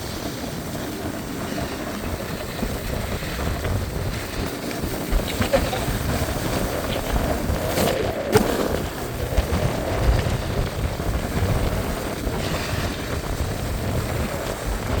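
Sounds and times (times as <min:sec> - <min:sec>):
snowboard scraping over snow: 0:00.0 - 0:15.0
wind buffeting microphone: 0:00.0 - 0:15.0.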